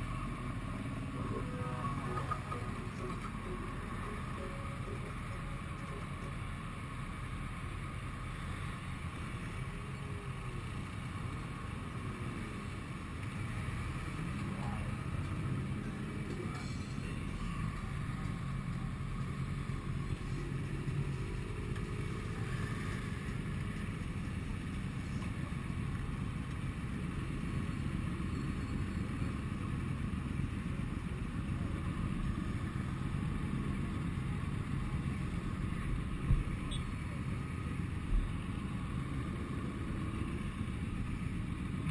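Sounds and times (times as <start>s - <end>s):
motorcycle engines running: 0.0s - 41.9s.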